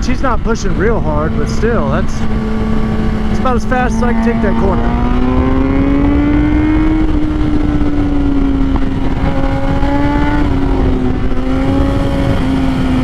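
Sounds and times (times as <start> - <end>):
motorcycle engine running hard: 0.0 - 13.0
wind rush on microphone: 0.0 - 13.0.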